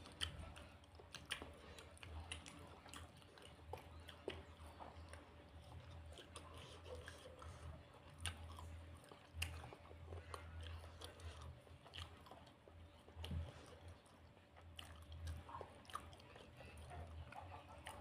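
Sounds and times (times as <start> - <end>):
low steady hum: 0.0 - 18.0
person chewing food: 0.0 - 18.0.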